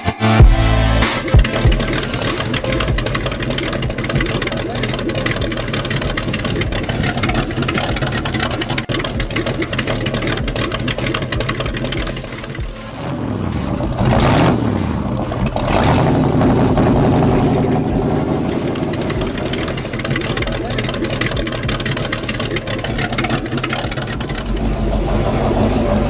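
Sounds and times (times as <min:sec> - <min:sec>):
boat engine idling: 0:00.4 - 0:26.0.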